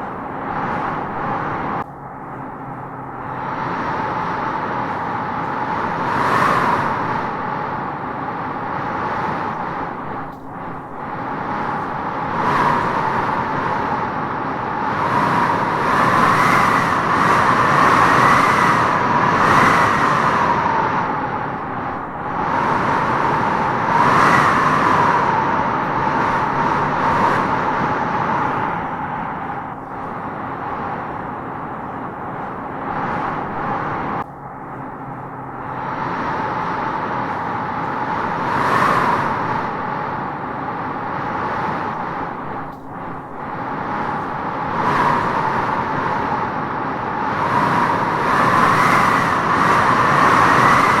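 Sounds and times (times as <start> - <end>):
wind howling through trees: 0.0 - 51.0.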